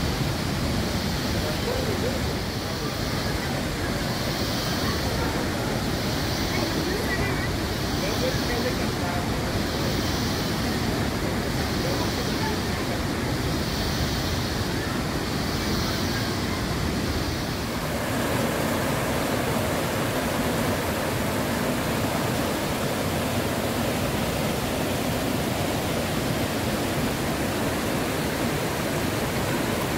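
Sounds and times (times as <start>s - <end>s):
river water rushing over boulders: 0.0s - 29.9s.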